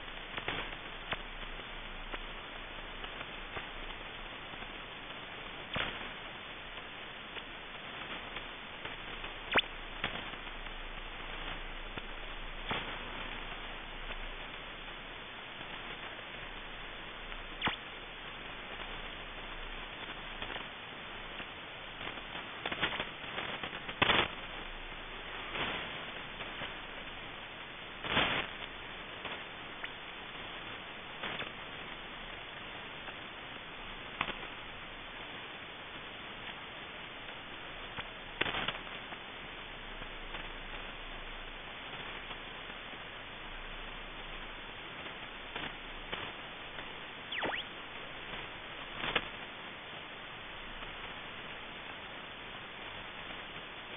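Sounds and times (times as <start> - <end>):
radio blips and crackles: 0.0 - 53.9
radio static hiss: 0.0 - 53.9.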